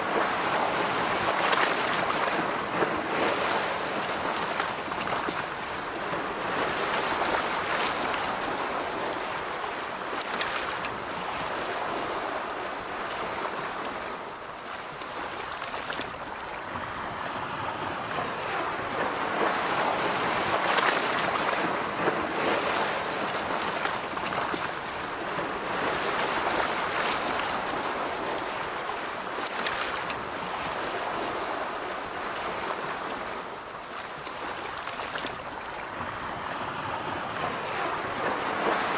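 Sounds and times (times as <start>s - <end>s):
surf washing onto beach: 0.0s - 38.9s.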